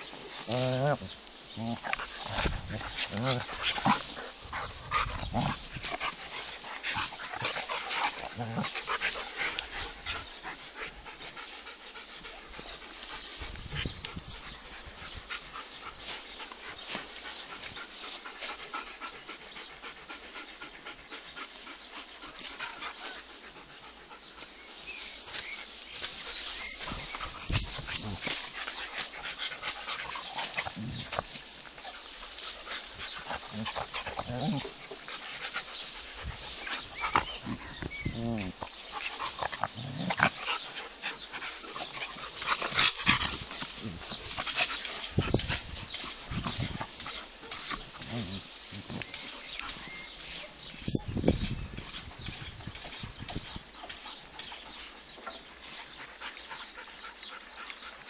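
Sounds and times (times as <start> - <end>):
dog sounds: 0.0 - 52.1.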